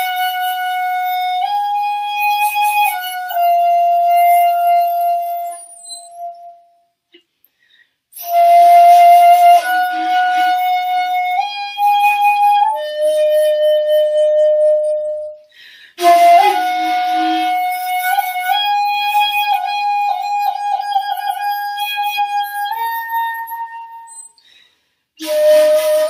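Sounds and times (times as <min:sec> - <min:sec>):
bamboo flute long held notes: 0:00.0 - 0:06.9, 0:08.2 - 0:24.6, 0:25.2 - 0:26.0.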